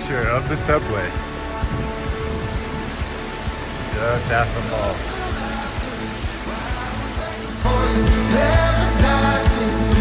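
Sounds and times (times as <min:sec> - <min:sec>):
music with singing voice: 0:00.0 - 0:10.0.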